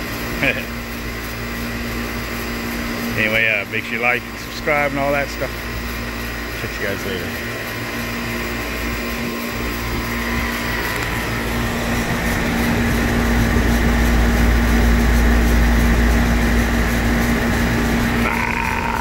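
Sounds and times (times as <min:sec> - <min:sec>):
compressor humming: 0:00.0 - 0:19.0
condenser fan rushing: 0:00.0 - 0:19.0.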